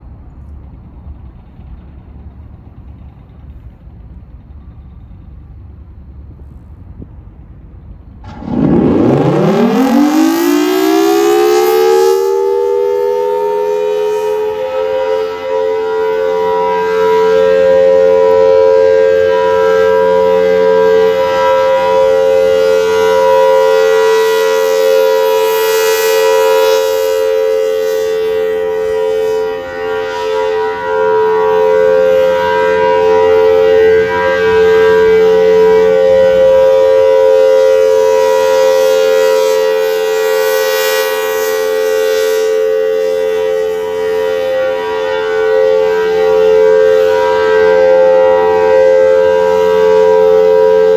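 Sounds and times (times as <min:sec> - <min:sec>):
rotating warning siren: 0:07.8 - 0:50.9.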